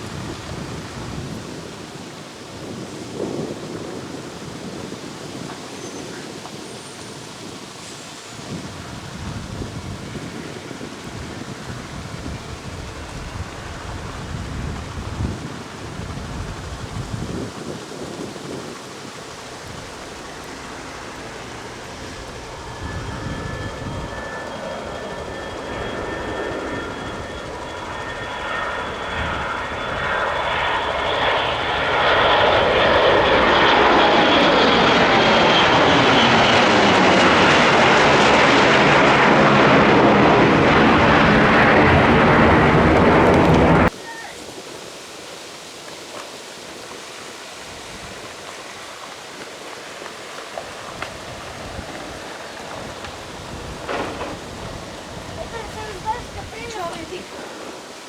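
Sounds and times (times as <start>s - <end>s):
airplane engines with high whine: 0.0s - 58.0s.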